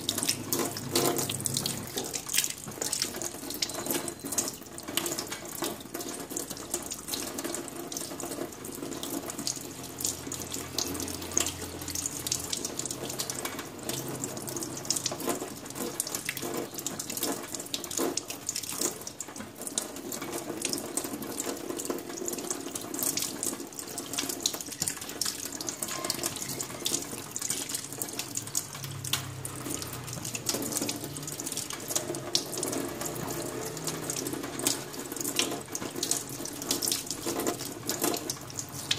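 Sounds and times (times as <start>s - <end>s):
tap water running and splashing: 0.0s - 38.9s.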